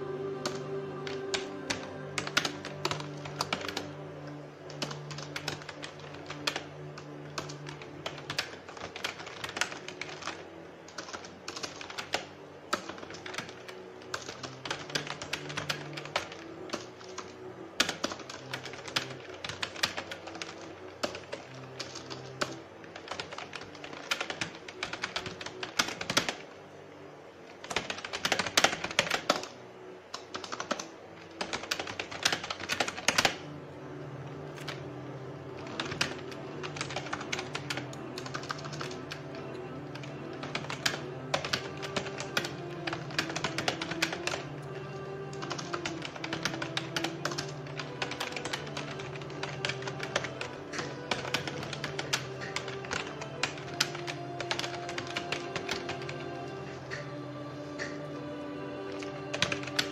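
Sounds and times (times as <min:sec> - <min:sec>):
organ music: 0:00.0 - 0:59.9
computer keyboard typing: 0:00.2 - 0:26.5, 0:27.5 - 0:33.6, 0:34.4 - 0:59.9.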